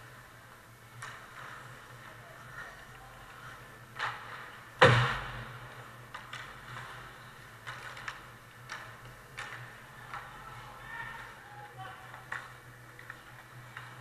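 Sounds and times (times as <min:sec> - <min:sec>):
steady low hum: 0:00.0 - 0:14.0
hockey sticks and puck knocking: 0:00.9 - 0:14.0.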